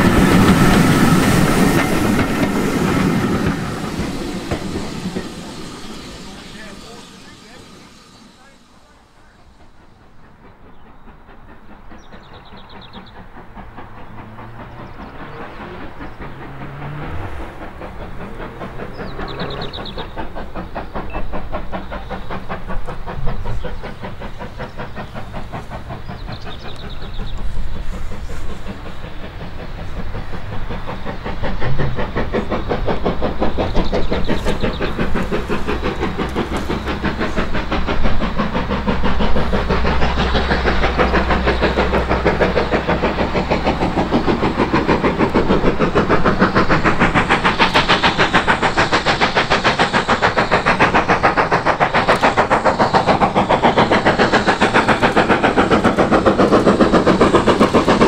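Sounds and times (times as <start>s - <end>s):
steam locomotive chuffing: 0.0s - 58.0s.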